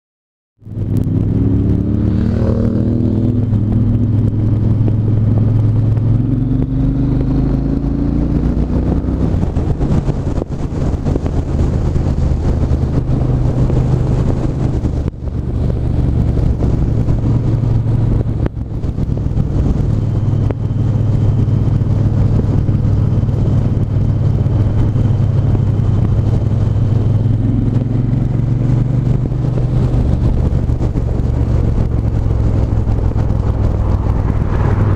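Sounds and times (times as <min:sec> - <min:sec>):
motorcycle engine pulling away: 0:00.7 - 0:34.9.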